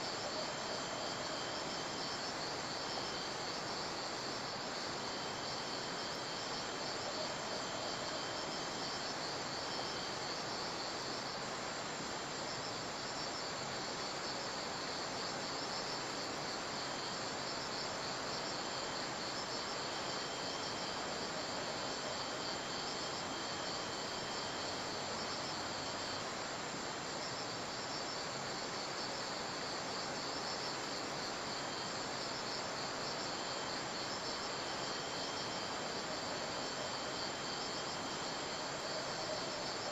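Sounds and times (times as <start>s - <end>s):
background hiss: 0.0s - 39.9s
crickets chirping: 0.0s - 39.9s.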